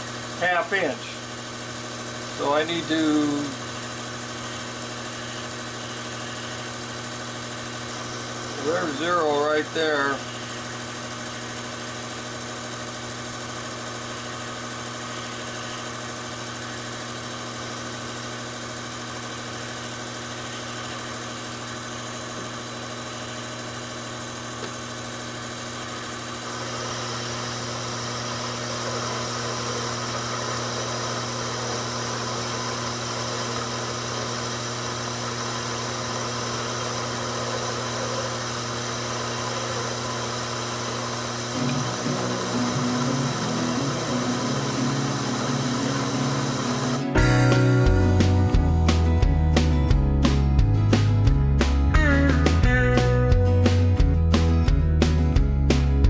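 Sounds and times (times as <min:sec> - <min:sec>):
lathe motor humming: 0:00.0 - 0:47.2
lathe tool cutting steel: 0:00.0 - 0:47.2.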